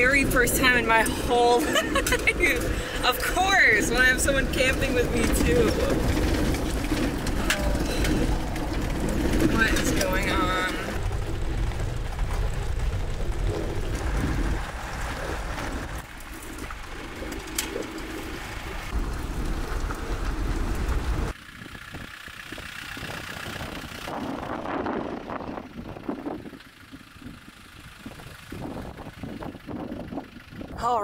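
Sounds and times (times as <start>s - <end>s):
engine and road noise in cabin: 0.0s - 31.0s
outdoor background: 0.0s - 31.0s.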